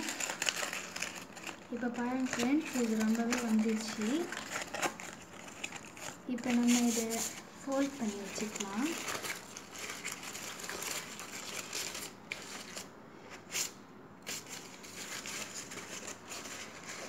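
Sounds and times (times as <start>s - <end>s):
paper crinkling: 0.0s - 17.0s.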